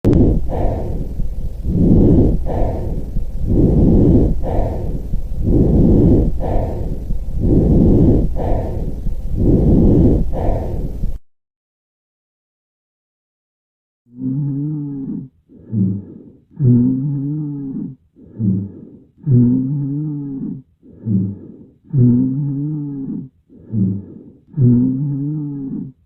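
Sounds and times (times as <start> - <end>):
person breathing in and out: 0.1 - 11.2, 14.1 - 26.0.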